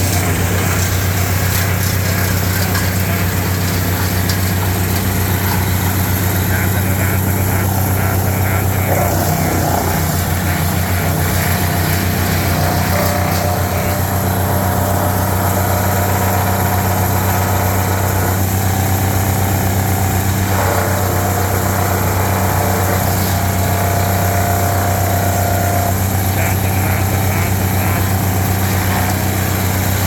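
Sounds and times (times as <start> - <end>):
wood chipper engine running: 0.0 - 30.0.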